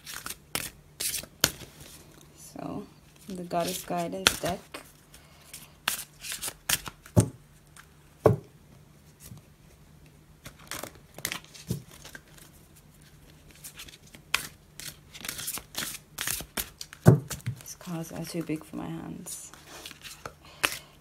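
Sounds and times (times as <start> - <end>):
cards being shuffled: 0.0 - 2.2, 3.2 - 7.9, 10.4 - 21.0.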